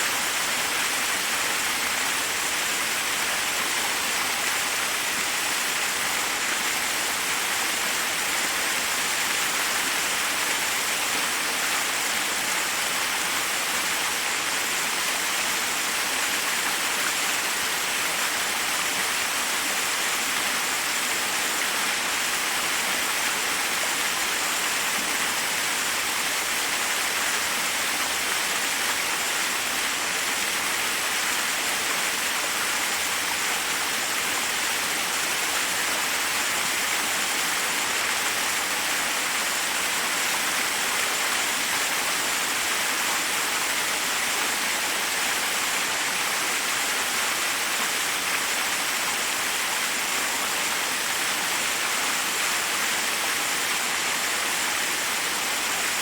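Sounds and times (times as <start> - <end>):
water cascading over rocks: 0.0 - 56.0.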